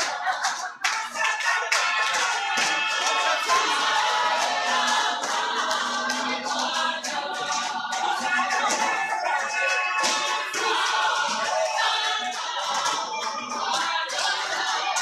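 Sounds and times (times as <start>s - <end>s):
gospel choir singing: 0.0s - 15.0s
hand clapping: 0.0s - 15.0s.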